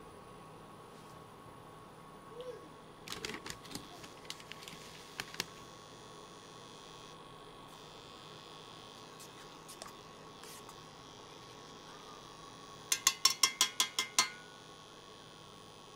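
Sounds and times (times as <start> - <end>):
electrical hum: 0.0 - 15.9.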